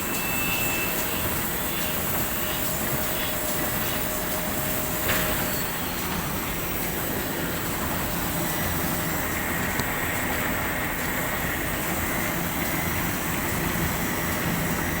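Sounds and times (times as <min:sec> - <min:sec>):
machine running with rushing noise: 0:00.0 - 0:15.0.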